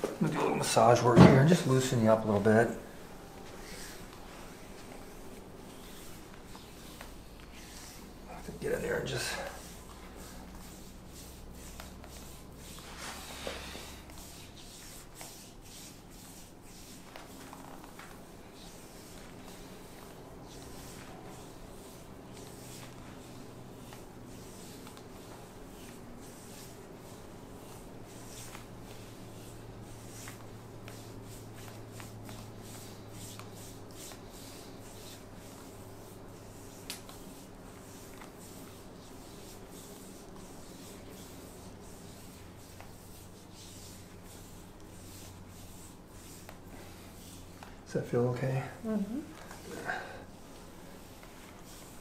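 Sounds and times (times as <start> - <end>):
hands rubbing skin: 3.4 - 52.0.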